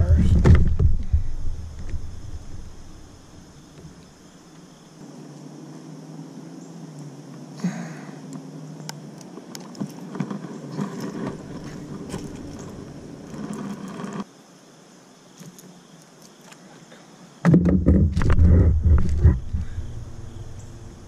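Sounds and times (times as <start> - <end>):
faint hiss: 0.0 - 17.5.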